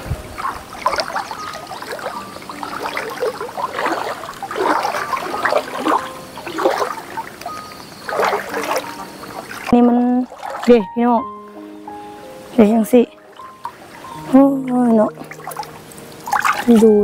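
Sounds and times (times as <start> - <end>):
water sloshing as person wades: 0.0 - 11.2, 12.4 - 17.0.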